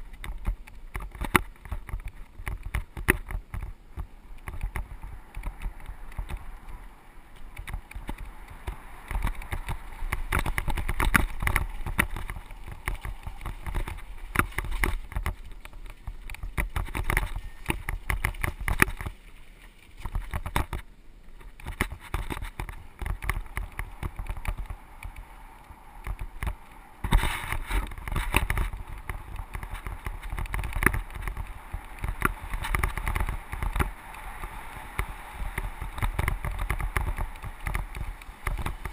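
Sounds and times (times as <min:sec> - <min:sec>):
bike frame rattling: 0:00.0 - 0:20.8, 0:21.4 - 0:25.2, 0:26.0 - 0:38.9
bike tyres crunching over dirt: 0:00.0 - 0:38.9.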